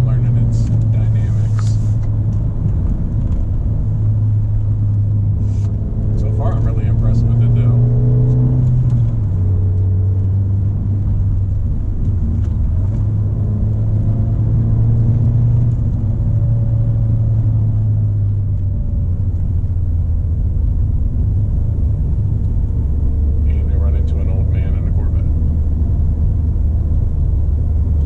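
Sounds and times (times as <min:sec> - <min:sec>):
car engine droning: 0:00.0 - 0:28.0.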